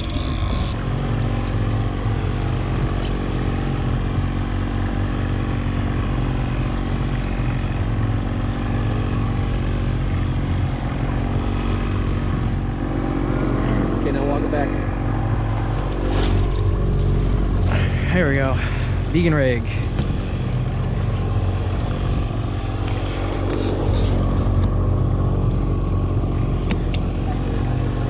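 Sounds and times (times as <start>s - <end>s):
boat motor droning: 0.0s - 28.0s
wind and water noise: 0.0s - 28.0s.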